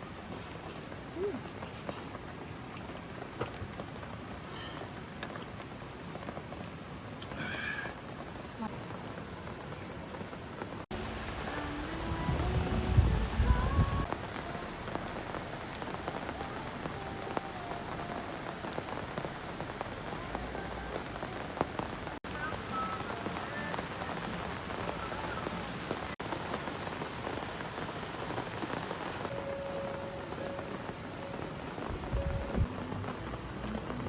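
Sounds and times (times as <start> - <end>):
steady rain patter: 0.0 - 34.0.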